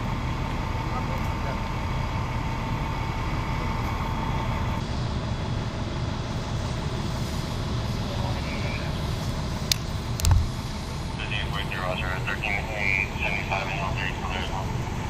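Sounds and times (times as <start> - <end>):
diesel engine idling: 0.0 - 15.0
thin steady whine: 0.0 - 15.0.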